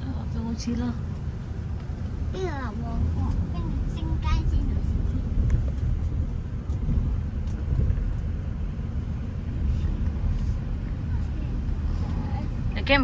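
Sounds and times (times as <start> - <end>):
car engine rumble inside cabin: 0.0 - 13.0
tyres on road: 0.0 - 13.0.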